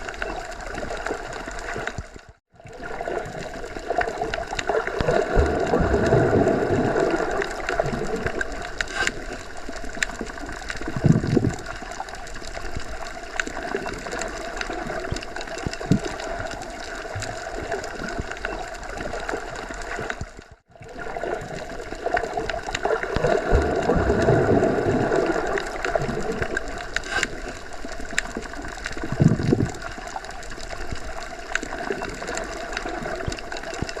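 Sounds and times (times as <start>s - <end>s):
muffled underwater water movement: 0.0s - 34.0s.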